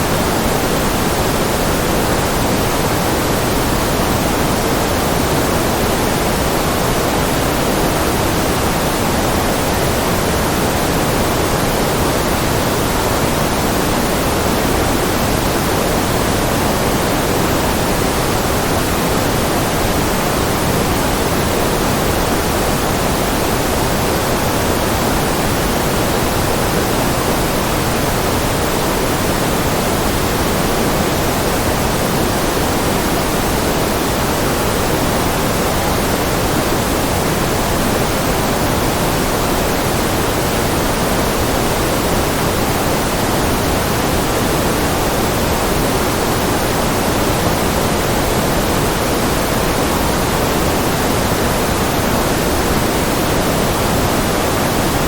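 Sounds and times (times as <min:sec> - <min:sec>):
steady synthetic noise hiss: 0:00.0 - 0:55.0.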